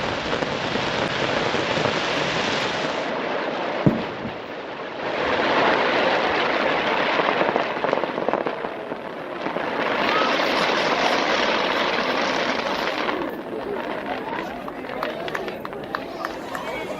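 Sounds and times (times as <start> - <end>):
fireworks crackling: 0.0 - 16.9.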